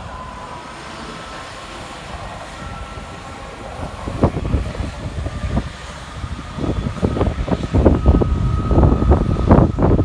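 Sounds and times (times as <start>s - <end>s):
high whining tones: 0.0s - 10.0s
train rumbling past: 0.0s - 10.0s.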